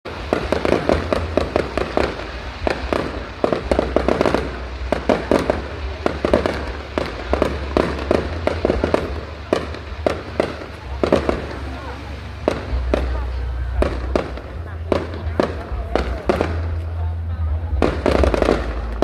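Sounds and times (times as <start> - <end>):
fireworks bangs and cracks: 0.0 - 19.0.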